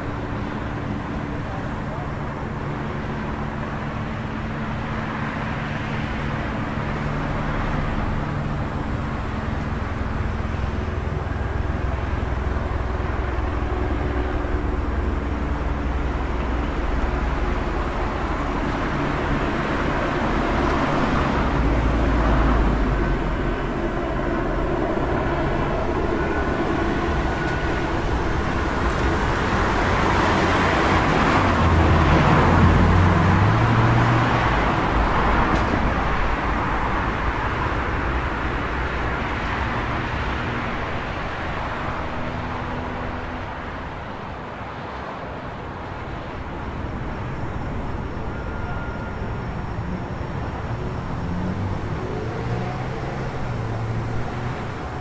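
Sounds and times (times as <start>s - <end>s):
passing cars engine and tyre noise: 0.0s - 55.0s.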